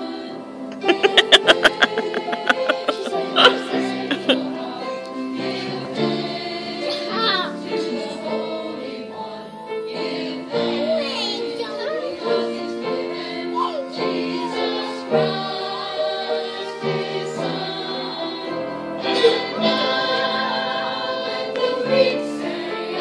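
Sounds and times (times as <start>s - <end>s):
choir singing with music: 0.0s - 23.0s.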